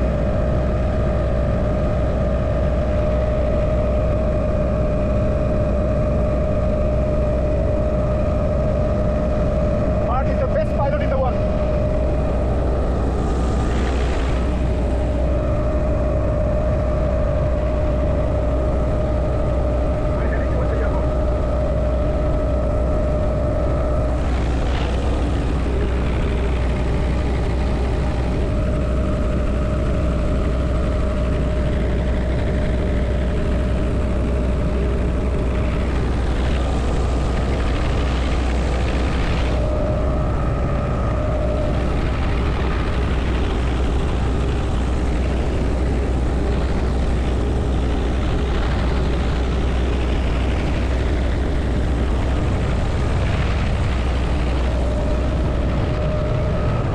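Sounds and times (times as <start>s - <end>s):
faint whine: 0.0s - 56.9s
helicopter rotor and engine: 0.0s - 56.9s.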